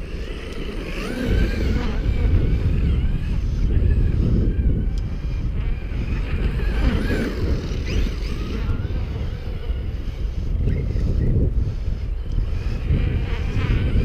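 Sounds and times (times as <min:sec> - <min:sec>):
electric motor whine: 0:00.0 - 0:14.0
wind buffeting microphone: 0:00.0 - 0:14.0.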